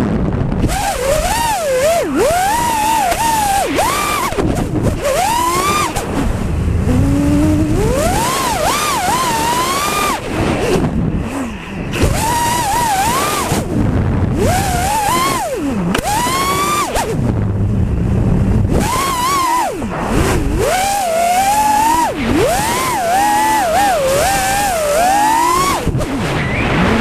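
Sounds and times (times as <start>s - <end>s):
drone motors whining: 0.0s - 27.0s
rush of air noise: 0.0s - 27.0s.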